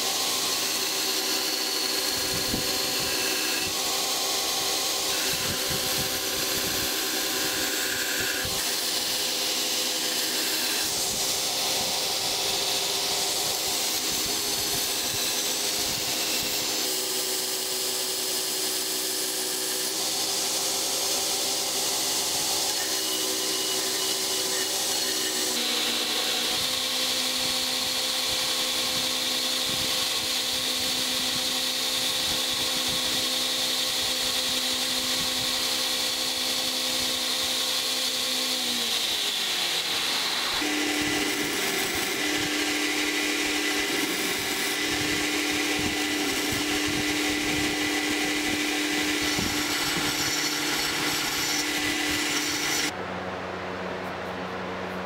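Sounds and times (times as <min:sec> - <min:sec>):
belt grinder motor hum: 0:00.0 - 0:52.9
steel grinding on abrasive belt: 0:00.0 - 0:52.9.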